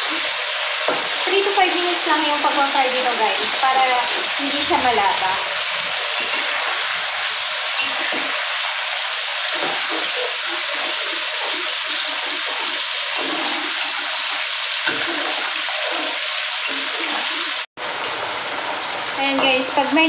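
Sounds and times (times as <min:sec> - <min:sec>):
beans sizzling in hot oil: 0:00.0 - 0:20.0.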